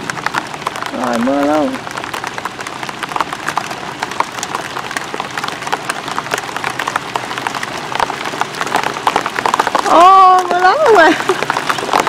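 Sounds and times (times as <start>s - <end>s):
raindrops pattering: 0.0s - 12.0s
rainfall hiss: 0.0s - 12.0s.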